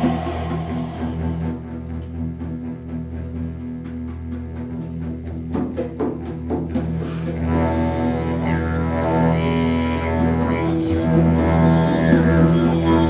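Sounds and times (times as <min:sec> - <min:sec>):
didgeridoo drone: 0:00.0 - 0:05.2, 0:07.3 - 0:13.0.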